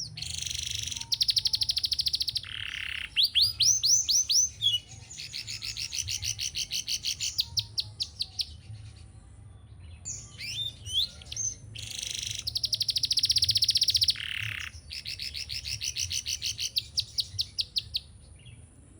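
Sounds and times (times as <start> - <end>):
canary singing trills: 0.0 - 8.9, 10.0 - 18.6.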